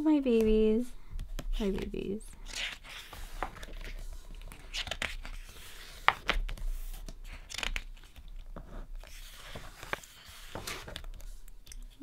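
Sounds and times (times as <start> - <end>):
book pages being turned: 1.2 - 12.0
paper rustling: 1.3 - 12.0.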